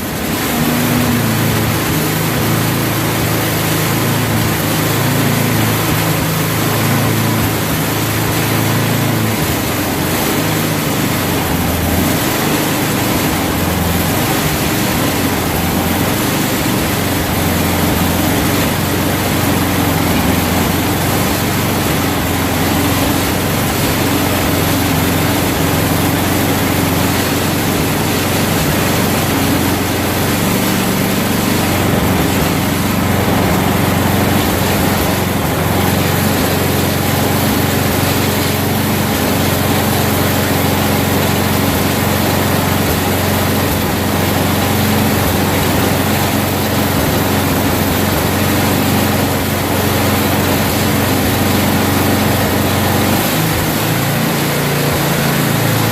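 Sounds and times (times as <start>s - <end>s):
small gasoline engine running: 0.0s - 55.9s.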